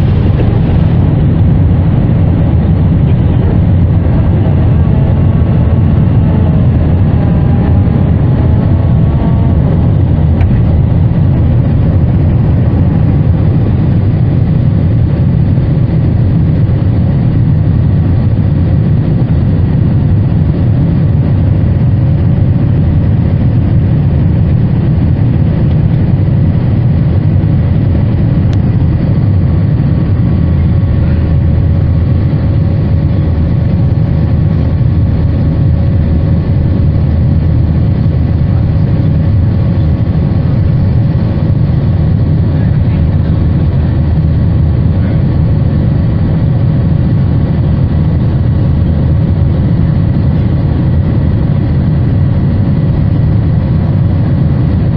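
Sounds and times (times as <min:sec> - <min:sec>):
aircraft cabin rumble: 0:00.0 - 0:54.9.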